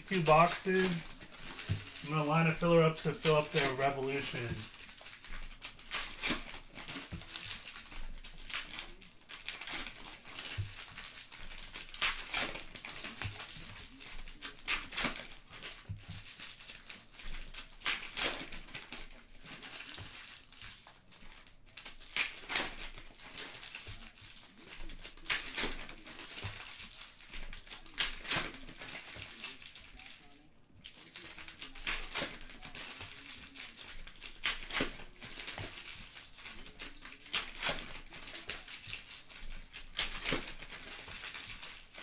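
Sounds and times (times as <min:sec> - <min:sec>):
foil wrappers crinkling and tearing: 0:00.0 - 0:42.0.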